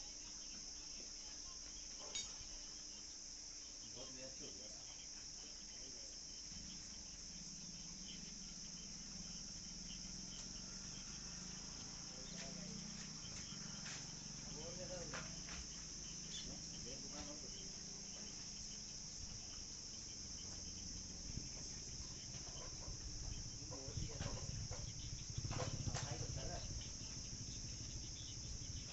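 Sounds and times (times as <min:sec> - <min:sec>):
crickets chirring: 0:00.0 - 0:28.9
faint distant voices: 0:00.0 - 0:28.9.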